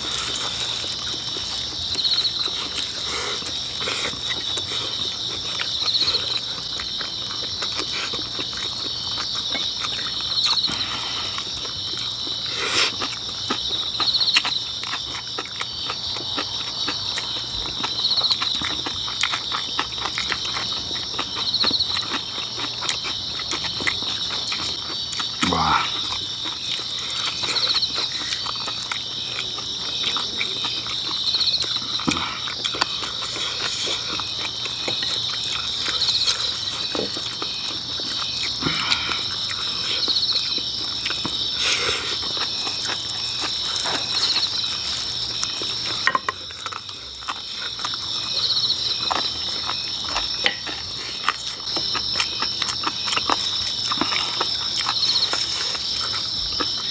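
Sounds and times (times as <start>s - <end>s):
close-up chewing: 0.0s - 56.9s
night insects chirping: 0.0s - 56.9s.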